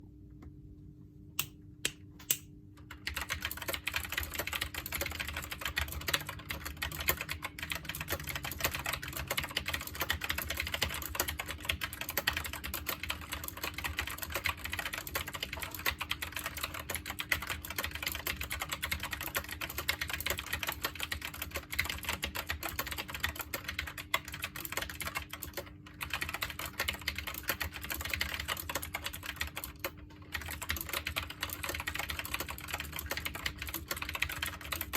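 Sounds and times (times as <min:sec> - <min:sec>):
typing on mechanical keyboard: 0:02.8 - 0:34.9.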